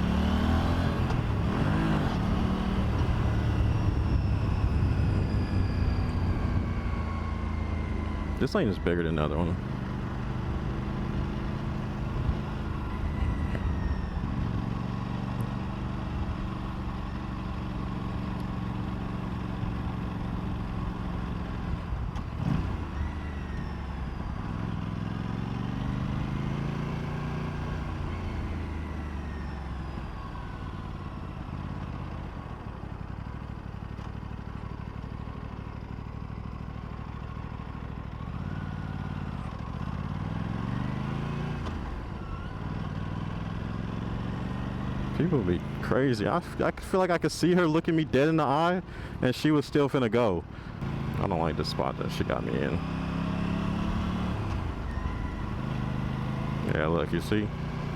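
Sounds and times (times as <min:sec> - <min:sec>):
motorcycle engine revving: 0:00.0 - 0:32.3, 0:38.0 - 0:49.2, 0:50.2 - 0:57.9.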